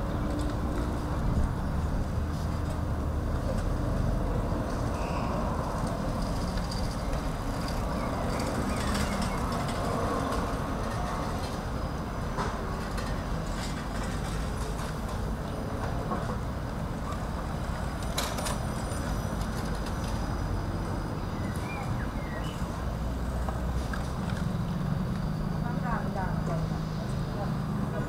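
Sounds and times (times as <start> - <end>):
bicycles rolling on brick paving: 0.0 - 28.0
traffic rumble: 0.0 - 28.0.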